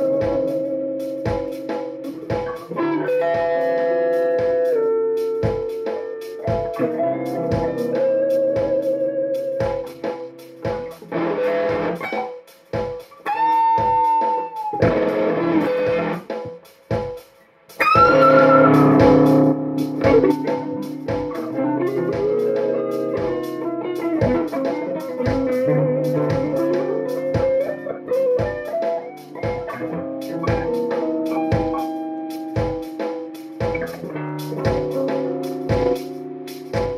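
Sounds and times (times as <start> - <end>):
electric guitar lead: 0.0 - 12.4, 13.2 - 16.6, 17.8 - 36.9
backing track with steady beat: 0.0 - 36.9.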